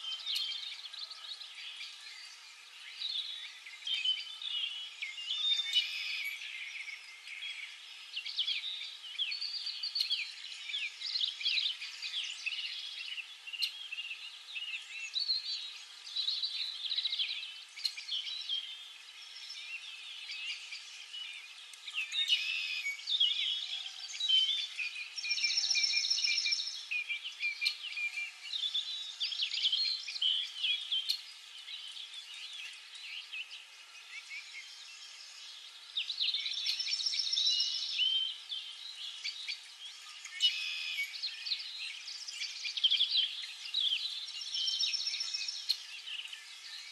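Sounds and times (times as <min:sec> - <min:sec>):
birds chirping and whistling: 0:00.0 - 0:46.9.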